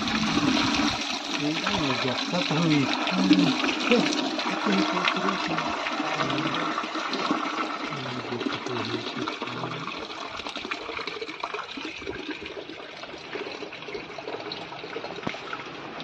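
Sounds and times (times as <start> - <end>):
water pouring into radiator: 0.0 - 16.0.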